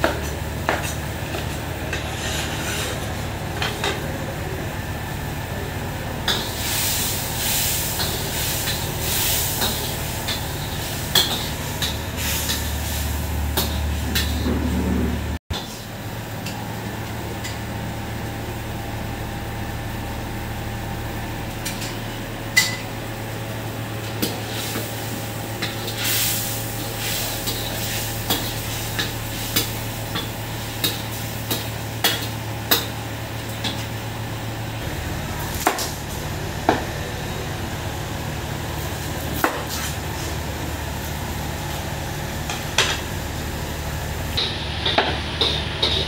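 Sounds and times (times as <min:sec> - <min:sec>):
light sizzle of frying: 0:06.1 - 0:14.6, 0:15.6 - 0:46.0.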